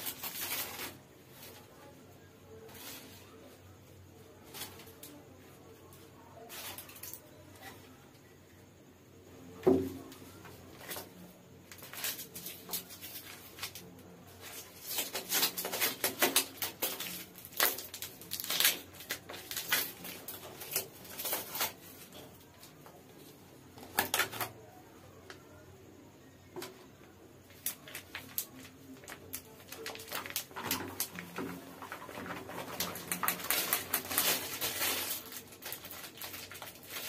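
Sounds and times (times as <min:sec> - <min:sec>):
aluminium foil crinkling: 0:00.0 - 0:08.3, 0:10.1 - 0:25.3, 0:27.4 - 0:37.0.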